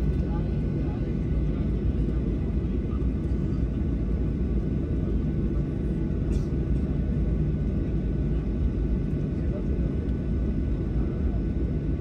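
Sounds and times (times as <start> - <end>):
airliner engines rumbling in cabin: 0.0 - 12.0.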